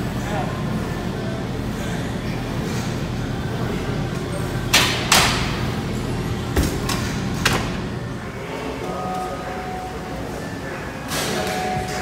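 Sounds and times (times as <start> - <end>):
gym background noise: 0.0 - 12.0.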